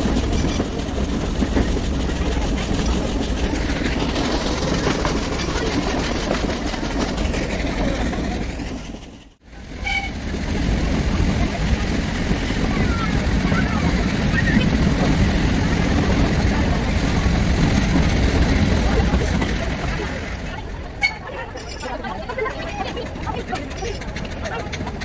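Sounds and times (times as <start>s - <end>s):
train rumbling and rattling: 0.0s - 25.0s.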